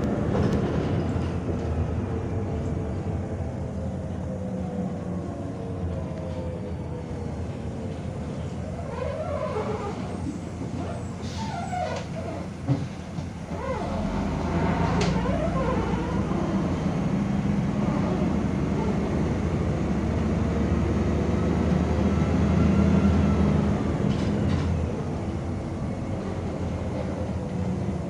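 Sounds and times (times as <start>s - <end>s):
bus engine drone: 0.0s - 28.0s
road noise: 0.0s - 28.0s.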